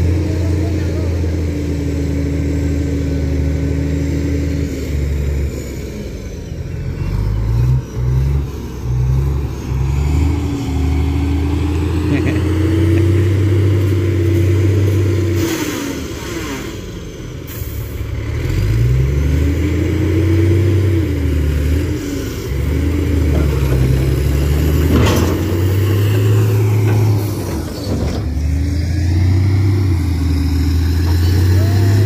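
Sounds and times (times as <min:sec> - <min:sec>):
diesel engine revving under load: 0:00.0 - 0:32.0.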